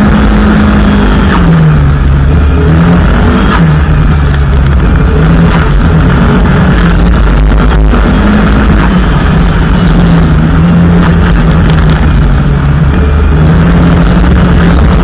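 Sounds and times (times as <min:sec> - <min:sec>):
car engine driven hard: 0:00.0 - 0:15.0.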